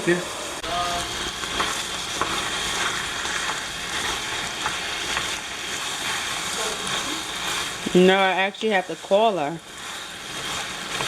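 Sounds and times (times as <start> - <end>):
crackling sizzling hiss: 0.0 - 11.0.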